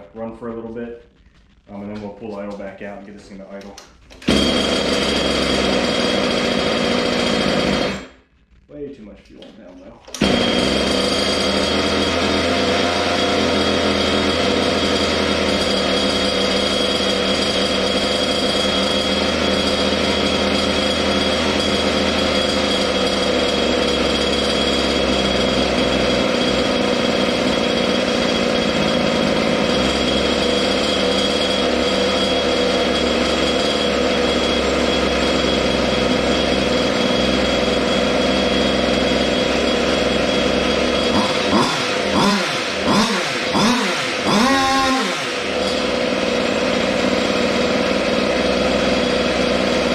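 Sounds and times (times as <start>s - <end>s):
engine pull-start: 3.6s - 8.2s, 10.1s - 49.9s
two-stroke engine fast idle: 4.2s - 8.1s, 10.2s - 49.9s.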